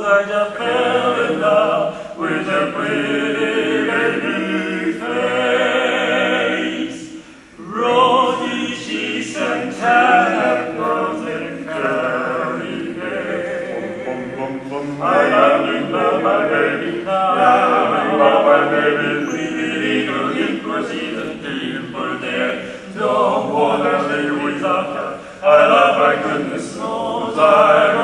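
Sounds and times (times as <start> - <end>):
male quartet singing a cappella: 0.0 - 28.0.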